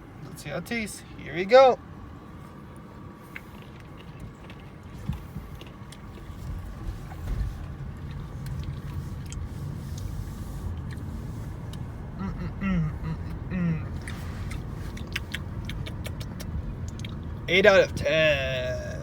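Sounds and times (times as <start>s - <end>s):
car engine rumble in cabin: 0.0s - 19.0s.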